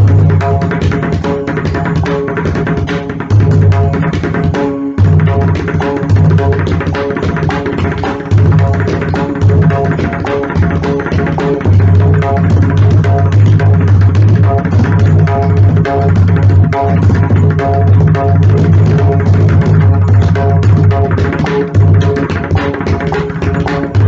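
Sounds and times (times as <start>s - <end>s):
barrel drum playing: 0.0s - 24.0s.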